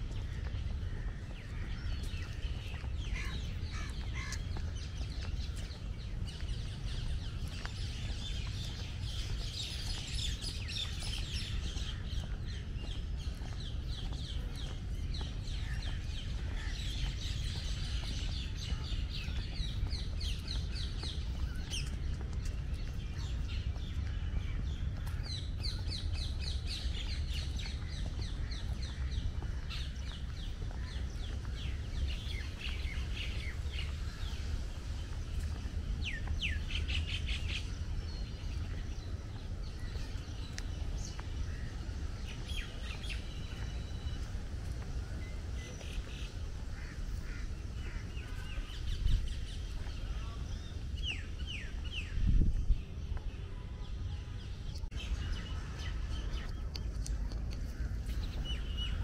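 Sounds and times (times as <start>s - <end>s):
birds chirping: 0.0s - 59.0s
steady low rumble: 0.0s - 59.0s.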